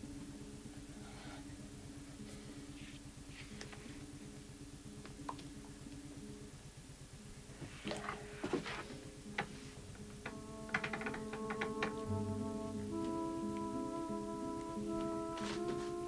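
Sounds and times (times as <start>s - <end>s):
background music of low notes: 0.0s - 16.0s.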